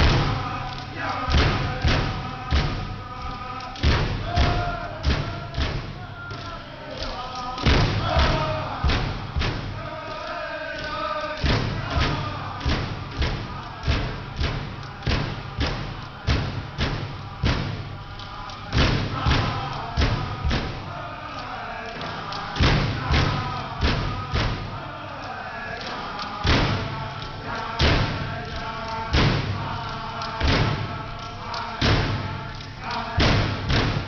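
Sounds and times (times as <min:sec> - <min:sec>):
frame drums beating in unison: 0:00.0 - 0:34.0
group of singers chanting: 0:00.0 - 0:34.0.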